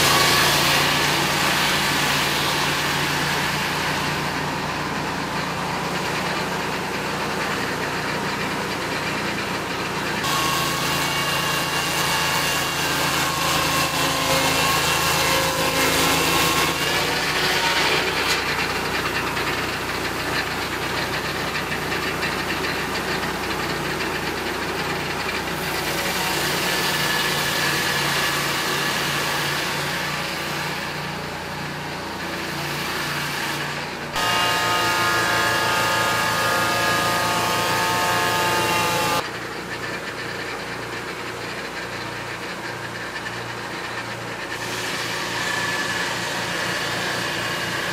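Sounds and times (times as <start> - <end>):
circular saw cutting log: 0.0 - 47.9
sawmill engine running: 0.0 - 47.9.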